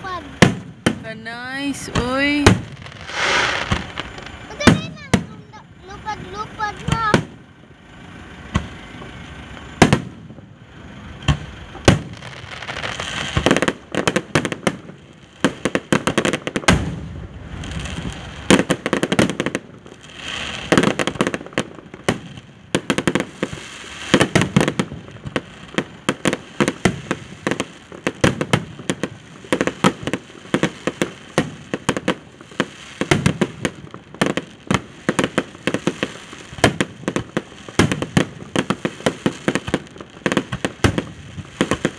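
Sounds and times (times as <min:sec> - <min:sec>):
fireworks bursting with bangs: 0:00.0 - 0:41.9
fireworks crackling: 0:00.0 - 0:41.9.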